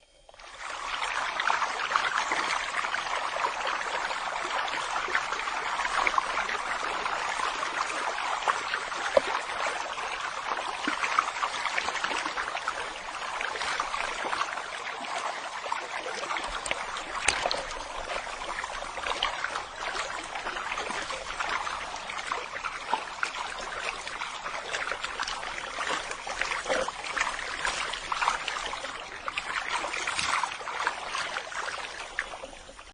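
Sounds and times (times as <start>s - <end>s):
water splashing and trickling: 0.0s - 32.9s.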